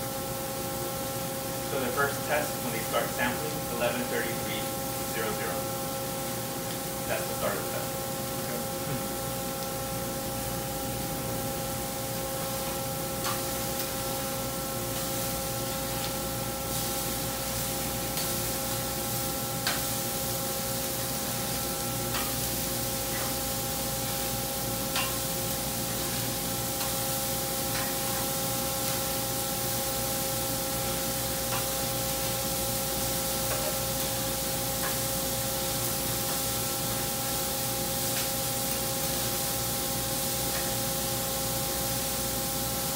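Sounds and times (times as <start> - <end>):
burger patties sizzling: 0.0 - 42.9
steady multi-pitched hum: 0.0 - 42.9.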